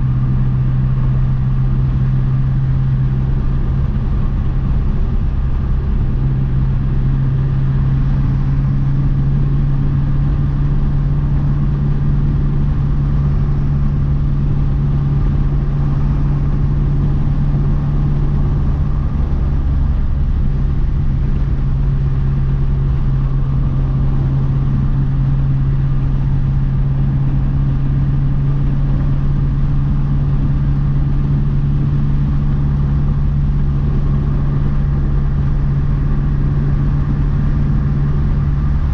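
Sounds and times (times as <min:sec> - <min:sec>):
car engine droning: 0:00.0 - 0:38.9
road rumble: 0:00.0 - 0:38.9.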